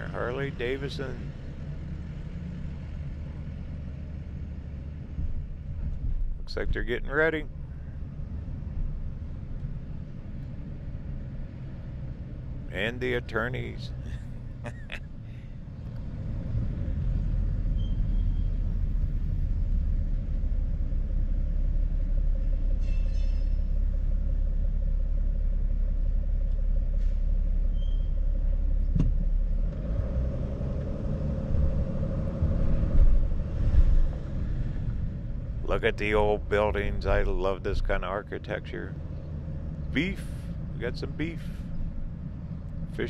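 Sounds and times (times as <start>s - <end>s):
vehicle engine and road noise: 0.0s - 43.0s.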